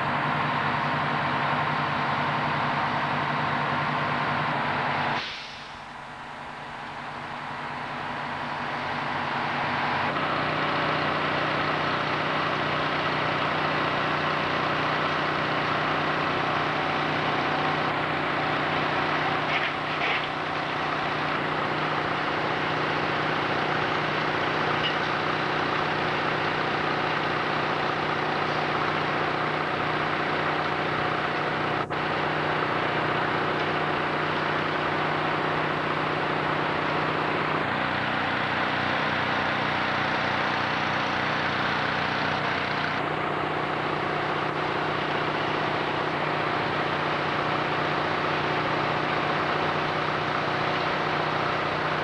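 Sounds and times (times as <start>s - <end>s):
fire engines running: 0.0s - 52.0s.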